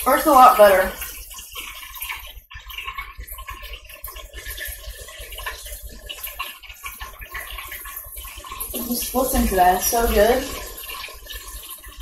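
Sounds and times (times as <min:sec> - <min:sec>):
chicken frying in deep fryer: 0:00.0 - 0:12.0.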